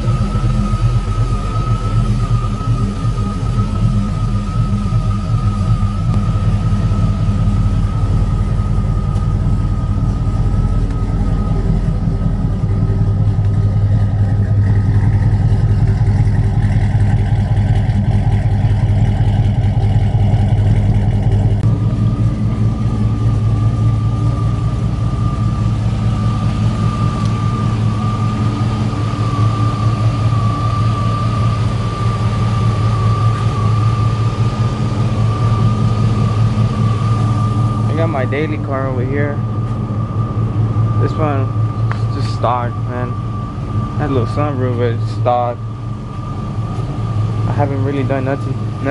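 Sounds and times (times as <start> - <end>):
high-pitched whine: 0.0 - 48.9
vehicle engine idling: 0.0 - 48.9.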